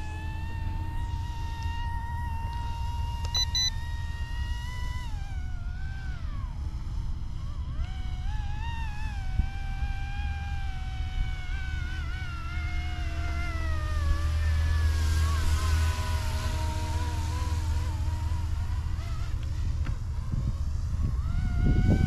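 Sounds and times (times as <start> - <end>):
rc helicopter rotor whine: 0.0 - 22.0
wind on microphone: 3.8 - 22.0.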